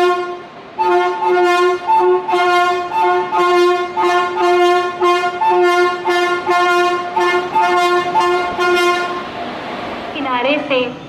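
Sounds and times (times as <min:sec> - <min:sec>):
locomotive horn two-tone blasts: 0:00.0 - 0:09.3.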